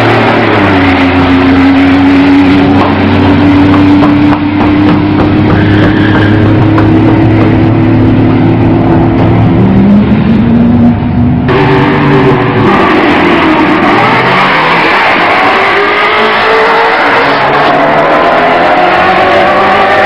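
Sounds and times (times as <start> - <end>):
car engine at full throttle: 0.0 - 20.0.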